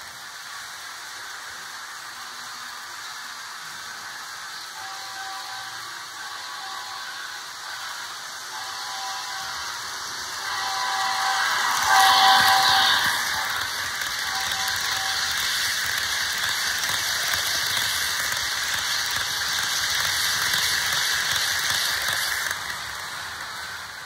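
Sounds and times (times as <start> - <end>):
model locomotive rattling: 0.0 - 24.0.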